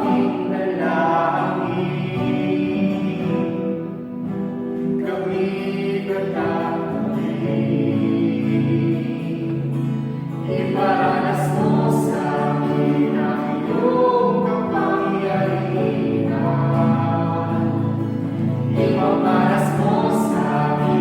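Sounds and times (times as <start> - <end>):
voices singing together: 0.0 - 21.0.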